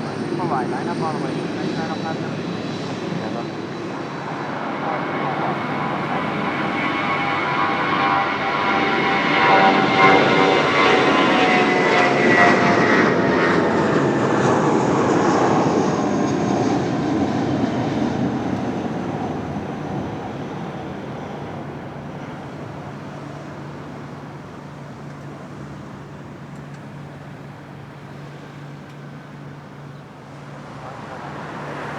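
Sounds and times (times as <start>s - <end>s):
jet engines roaring past: 0.0s - 31.9s.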